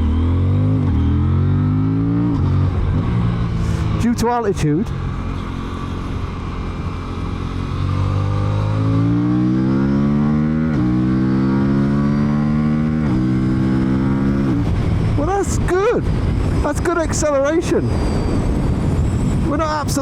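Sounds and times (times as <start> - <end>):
motorcycle engine accelerating: 0.0 - 16.7.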